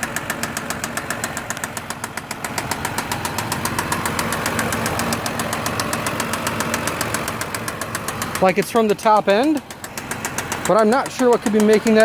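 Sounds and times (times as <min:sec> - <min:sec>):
car engine running: 0:00.0 - 0:12.0
rapid even ticking: 0:00.0 - 0:12.0.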